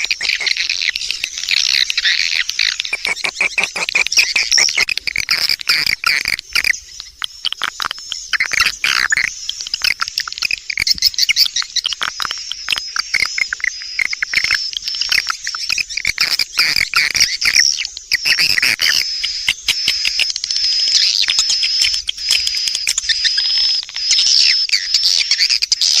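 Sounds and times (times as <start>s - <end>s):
swiftlets twittering: 0.0s - 25.7s.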